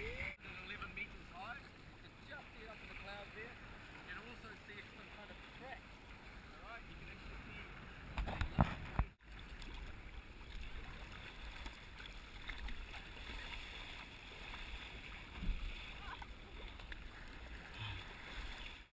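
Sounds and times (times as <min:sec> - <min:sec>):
water lapping: 0:00.0 - 0:18.9
paddle splashes: 0:01.2 - 0:18.9.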